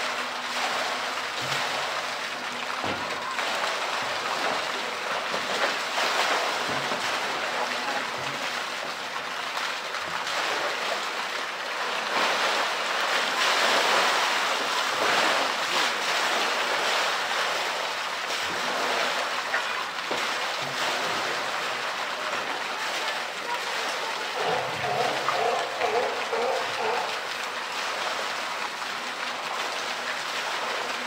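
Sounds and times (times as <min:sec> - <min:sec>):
water splashing: 0:00.0 - 0:31.0.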